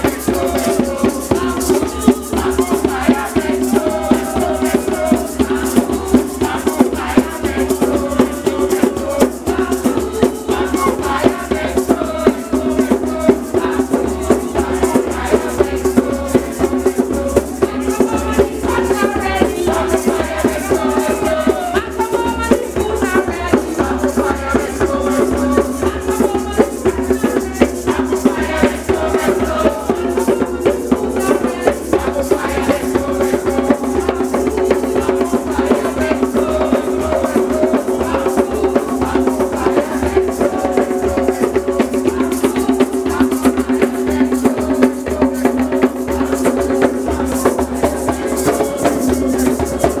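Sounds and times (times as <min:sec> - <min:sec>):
drums and rattles beat: 0:00.0 - 0:50.0
people singing: 0:00.0 - 0:50.0.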